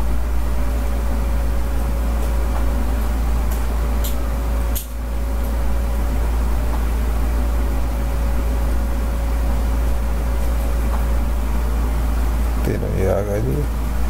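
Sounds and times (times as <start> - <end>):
faint steady whine: 0.0 - 14.0
low electrical hum with hiss: 0.0 - 14.0.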